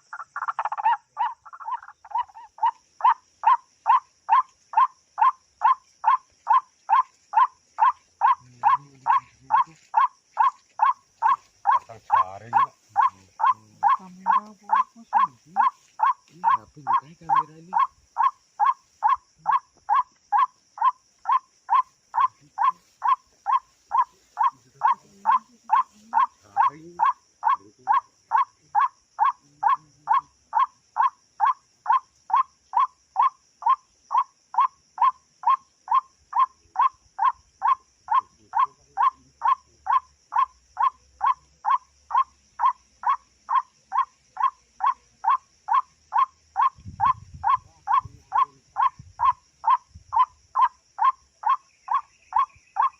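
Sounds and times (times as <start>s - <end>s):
waterbird calling kwak: 0.0s - 52.9s.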